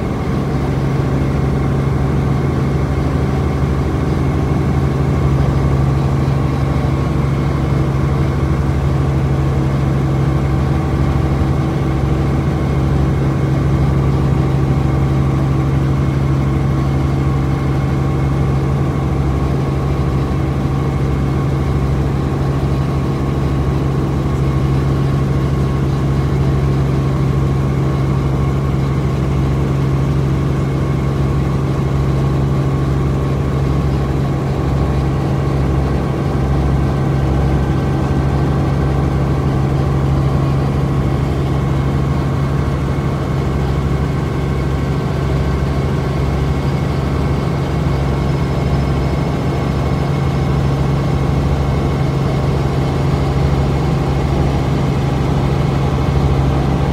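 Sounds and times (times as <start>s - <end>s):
helicopter engine and rotor hum: 0.0s - 56.9s.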